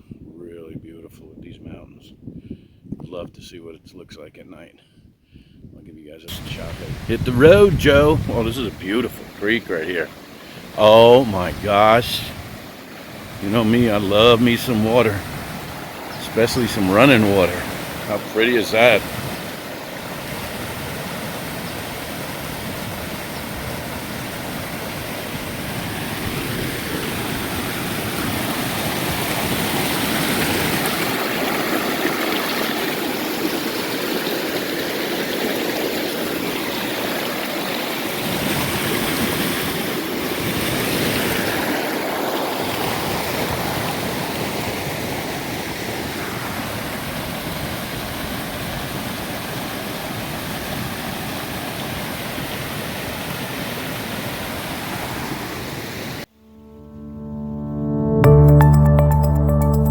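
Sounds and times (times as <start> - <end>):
water rushing over rocks: 6.3 - 56.3.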